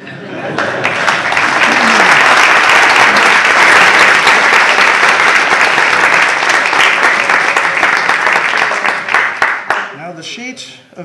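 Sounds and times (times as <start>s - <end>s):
audience applause: 0.3s - 9.9s.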